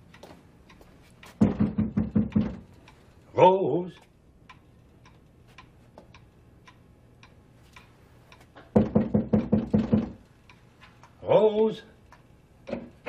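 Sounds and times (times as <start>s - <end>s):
wall clock ticking: 0.0s - 13.0s.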